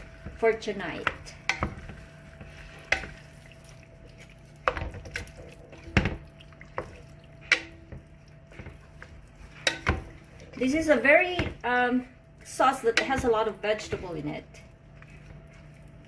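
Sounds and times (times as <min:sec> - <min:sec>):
spoon stirring thick sauce: 0:00.0 - 0:10.6, 0:12.9 - 0:16.0
low steady hum: 0:00.0 - 0:16.0.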